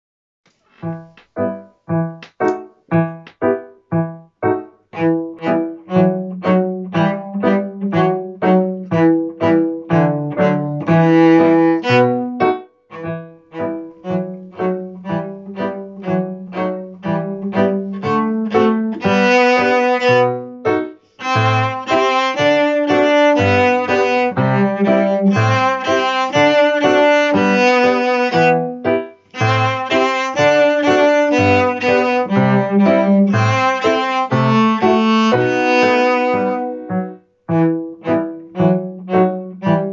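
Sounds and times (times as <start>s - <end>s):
piano accompaniment: 0.5s - 39.9s
cello played with a bow: 3.9s - 39.9s.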